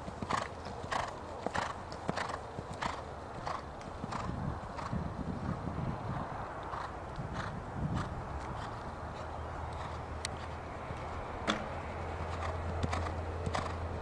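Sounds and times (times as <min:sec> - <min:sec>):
horse cantering on sand: 0:00.0 - 0:14.0.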